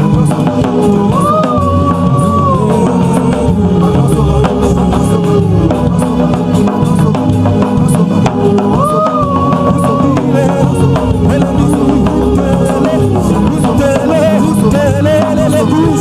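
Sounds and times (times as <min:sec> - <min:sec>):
gospel band with drums and bass: 0:00.0 - 0:16.0.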